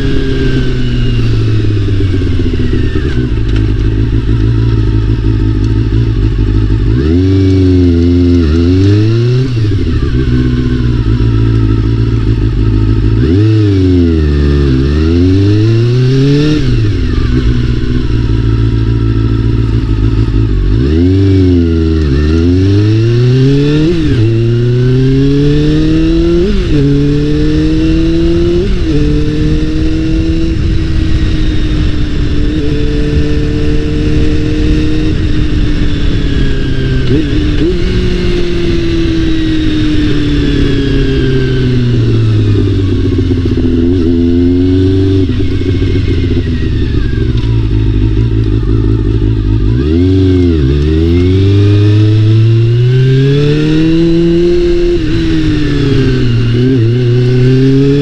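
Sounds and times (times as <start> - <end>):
motorcycle engine accelerating through gears: 0.0 - 58.0.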